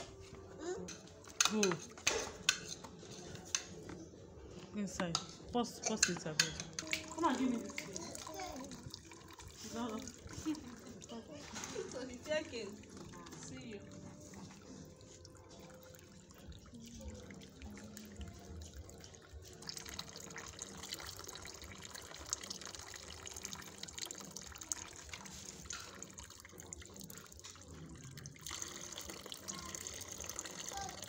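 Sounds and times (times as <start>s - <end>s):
water trickling into plastic bucket: 0.0s - 3.6s, 5.0s - 31.0s.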